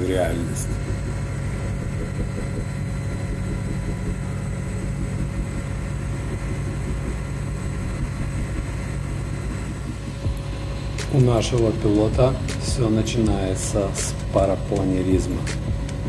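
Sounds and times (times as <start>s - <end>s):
helicopter engine and rotor drone: 0.0s - 16.0s.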